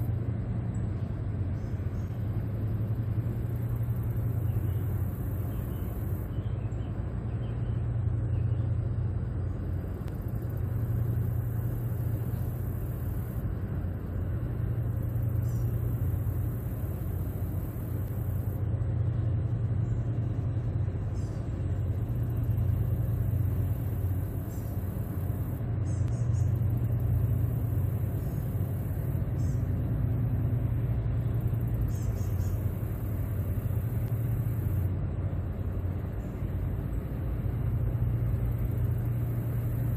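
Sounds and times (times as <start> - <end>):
diesel engines rumbling: 0.0 - 39.9.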